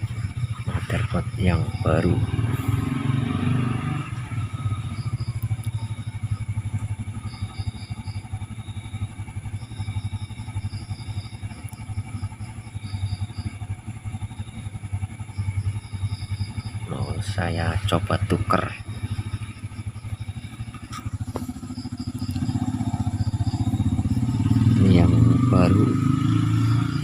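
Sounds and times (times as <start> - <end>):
low pulsing engine rumble: 0.0 - 27.0.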